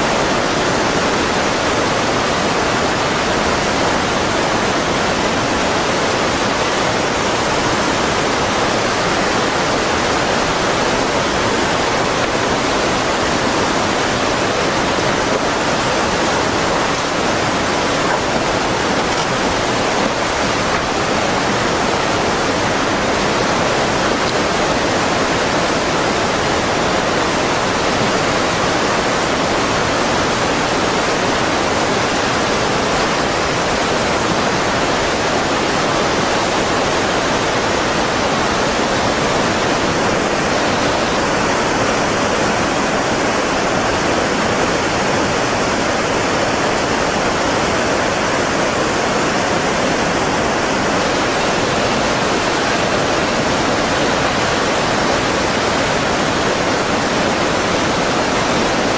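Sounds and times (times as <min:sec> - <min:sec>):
floodwater rushing: 0:00.0 - 0:58.9.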